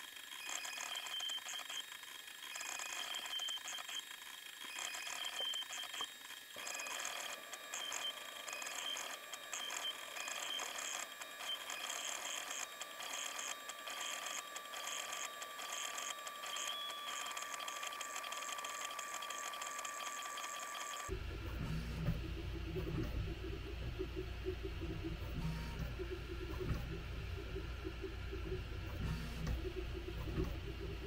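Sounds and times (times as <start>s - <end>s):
three d printer chirping and whirring: 0.0s - 31.0s.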